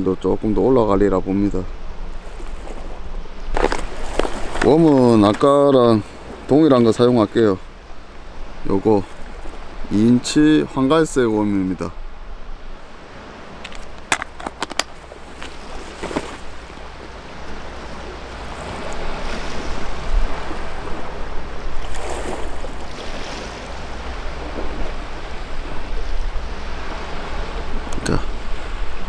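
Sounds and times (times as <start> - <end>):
sea waves washing on shore: 0.0 - 29.0.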